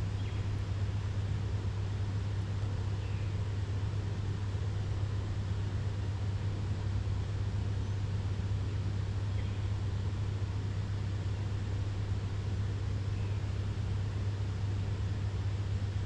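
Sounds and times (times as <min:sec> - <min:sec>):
constant even hiss: 0:00.0 - 0:16.0
steady low hum: 0:00.0 - 0:16.0.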